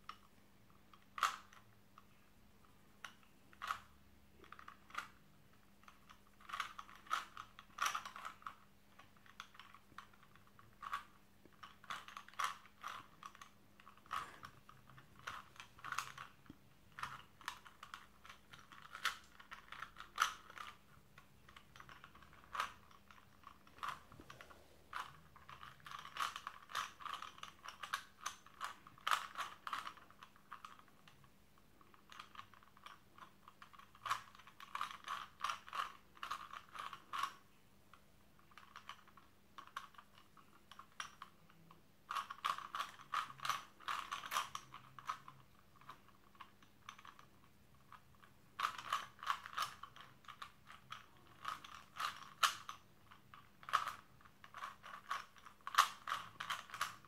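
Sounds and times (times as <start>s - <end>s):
puzzle cube clicking as turned: 0.9s - 1.7s, 3.0s - 5.2s, 5.8s - 31.2s, 31.9s - 37.4s, 42.1s - 47.3s, 47.9s - 57.0s.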